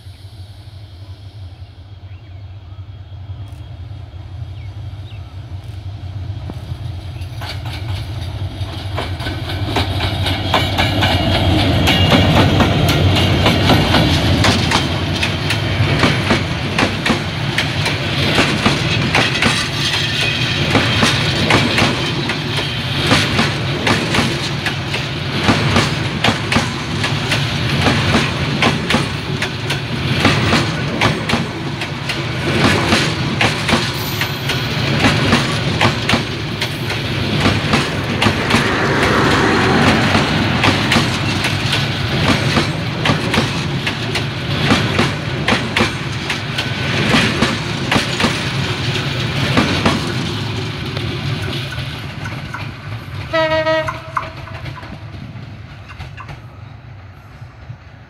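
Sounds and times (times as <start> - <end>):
diesel locomotive engine rumble: 0.0 - 58.0
train wheels clacking over rail joints: 6.5 - 56.6.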